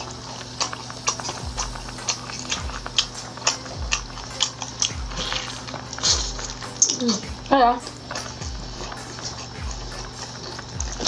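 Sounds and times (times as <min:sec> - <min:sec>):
lip smacks: 0:00.0 - 0:11.0
woman chewing crunchy food: 0:00.0 - 0:11.0.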